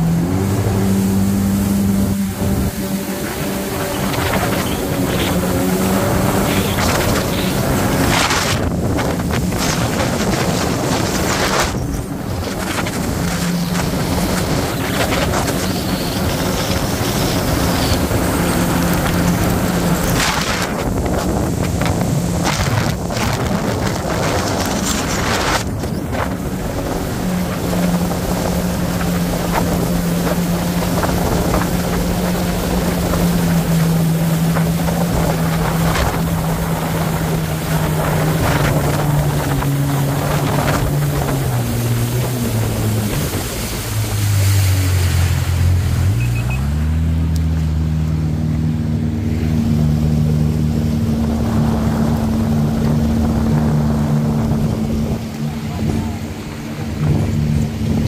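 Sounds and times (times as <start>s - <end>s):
wind buffeting microphone: 0.0s - 46.2s, 47.2s - 58.0s
jet ski engine running: 0.0s - 58.0s.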